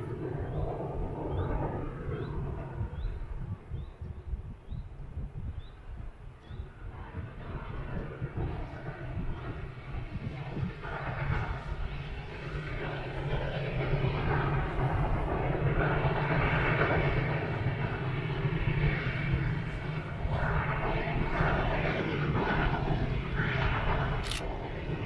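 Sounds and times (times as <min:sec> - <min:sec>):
distant steam locomotive rumble: 0:00.0 - 0:25.0.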